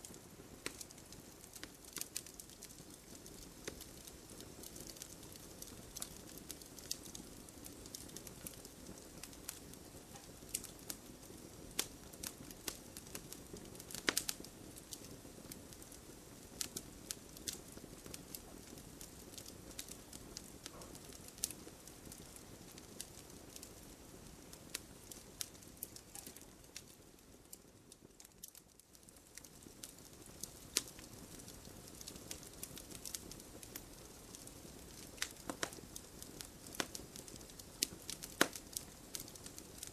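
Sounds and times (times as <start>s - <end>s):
burning logs crackling and popping: 0.0s - 39.9s
rush of fireplace flames: 0.0s - 39.9s.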